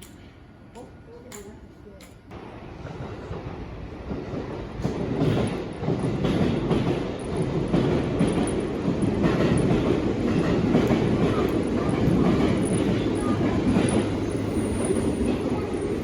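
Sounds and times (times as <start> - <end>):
train wheels clattering over rails: 2.3 - 16.0.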